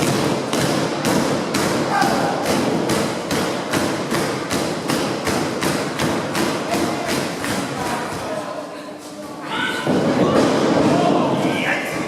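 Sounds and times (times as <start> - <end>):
crowd pounding rhythmic thuds: 0.0 - 8.6, 9.7 - 12.0
crowd noise: 0.0 - 12.0.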